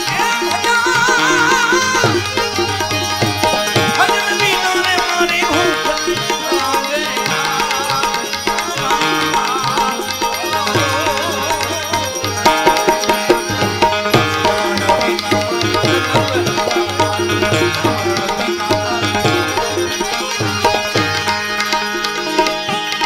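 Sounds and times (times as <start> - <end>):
held drone notes: 0.0 - 23.0
tabla rhythm: 0.0 - 23.0
wavering melody: 0.0 - 23.0.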